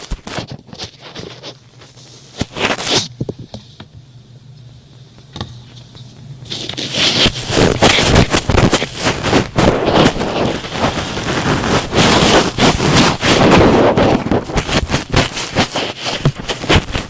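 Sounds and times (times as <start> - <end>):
cotton swab rubbing and scratching: 0.0 - 3.1, 6.4 - 17.0.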